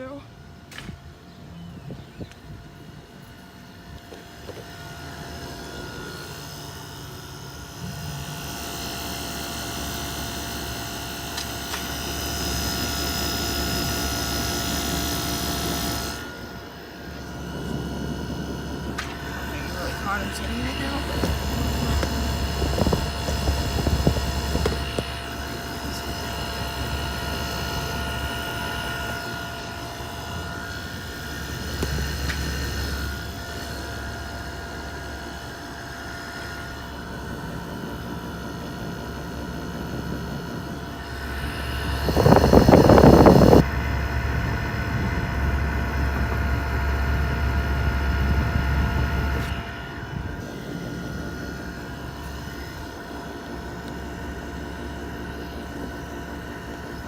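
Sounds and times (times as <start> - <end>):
air conditioner units humming: 0.0 - 57.0
whining tones: 1.4 - 57.0.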